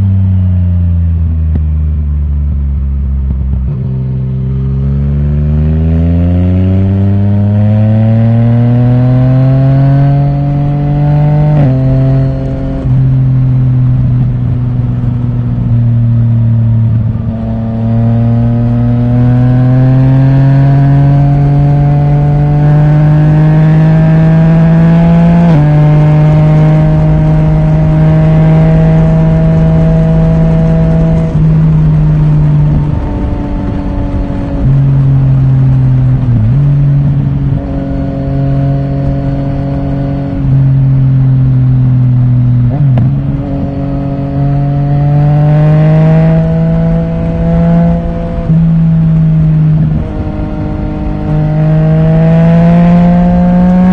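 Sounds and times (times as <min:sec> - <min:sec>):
motorcycle engine under throttle: 0:00.0 - 0:53.9.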